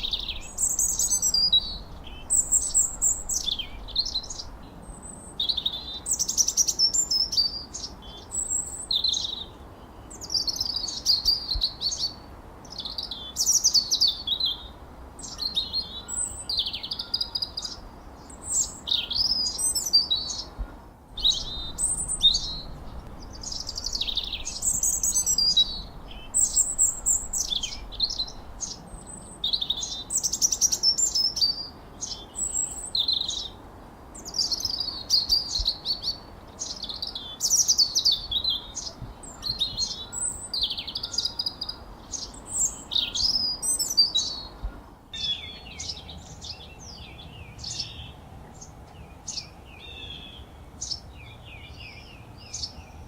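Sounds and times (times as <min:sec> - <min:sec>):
birds chirping and whistling: 0:00.0 - 0:09.5, 0:10.1 - 0:20.5, 0:21.2 - 0:33.6, 0:34.2 - 0:44.5
faint steady background hiss: 0:00.0 - 0:53.0.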